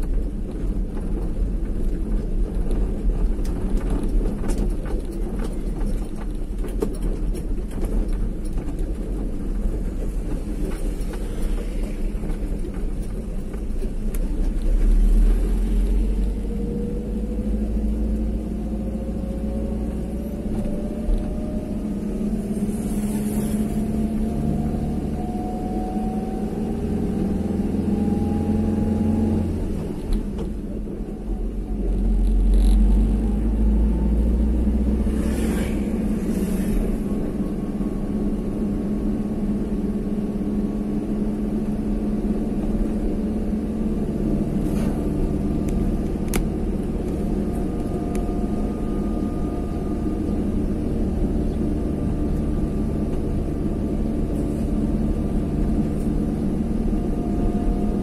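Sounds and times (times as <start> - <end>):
low road rumble: 0.0 - 58.0
vehicle engine running: 0.0 - 58.0.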